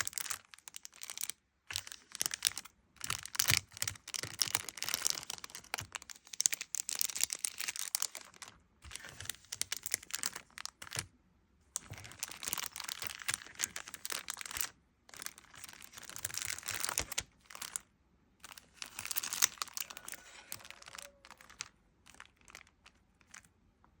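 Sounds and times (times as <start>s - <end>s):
paper crumpling: 0.0s - 11.1s, 11.8s - 17.8s, 18.5s - 23.5s.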